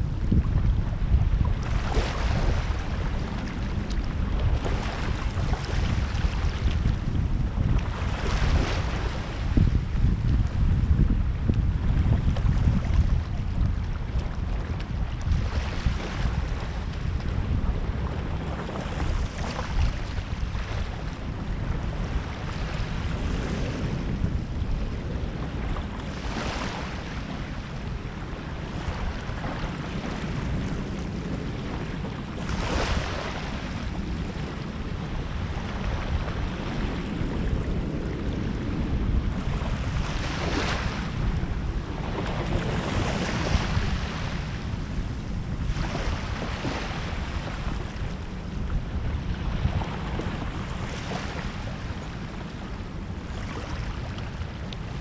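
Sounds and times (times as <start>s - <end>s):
small waves washing on shore: 0.0s - 55.0s
wind rumble on microphone: 0.0s - 55.0s.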